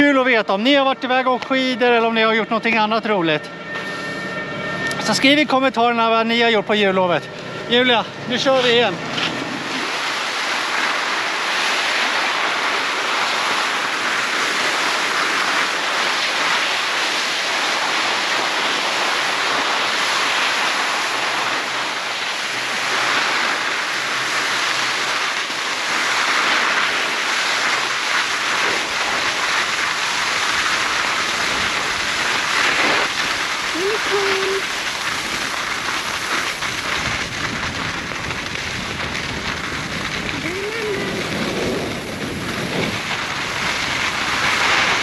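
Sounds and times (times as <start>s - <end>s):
skis sliding over snow: 8.3s - 45.0s.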